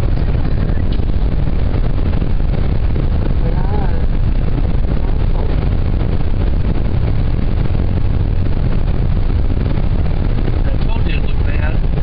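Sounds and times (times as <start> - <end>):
road and wind noise inside car: 0.0 - 12.0.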